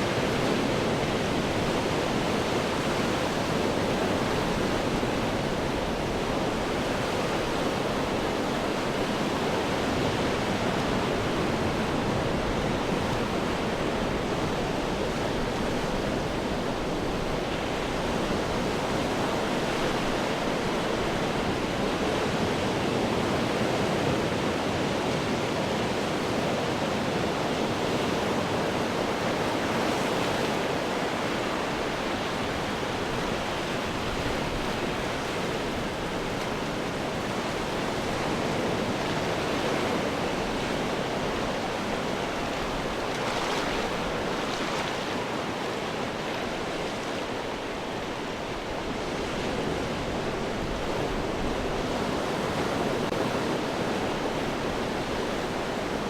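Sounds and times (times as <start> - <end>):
ocean surf washing over rocks: 0.0 - 56.0.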